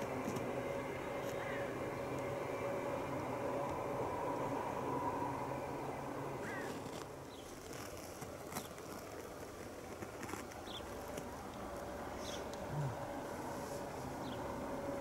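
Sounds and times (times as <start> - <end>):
distant electric train hum: 0.0 - 15.0.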